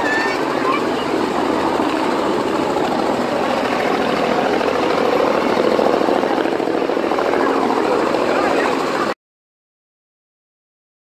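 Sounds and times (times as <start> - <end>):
helicopter rotors and engine: 0.0 - 9.2.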